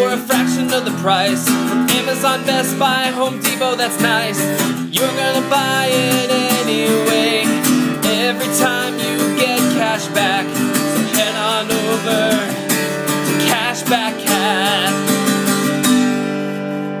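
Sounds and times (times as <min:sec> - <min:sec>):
man singing: 0:00.0 - 0:15.8
acoustic guitar strumming chords: 0:00.0 - 0:17.0.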